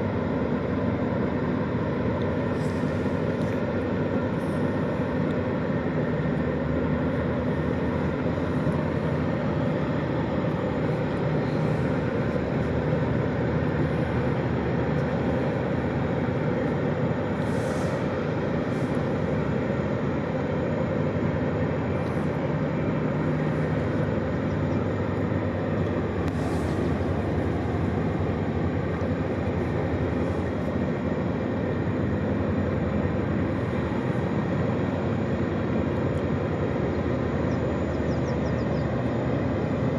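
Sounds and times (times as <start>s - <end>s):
diesel engines droning: 0.0s - 39.9s
wash of noise: 0.0s - 39.9s.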